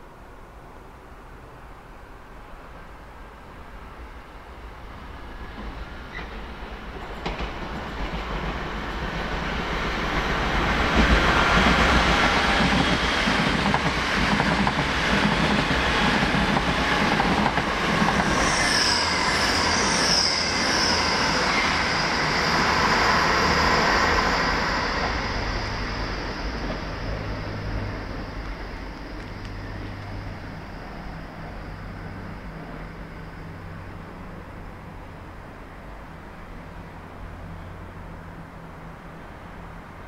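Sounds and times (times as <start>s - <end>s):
high steady train whine: 0.0s - 40.0s
train wheels rushing on rail: 3.9s - 36.9s.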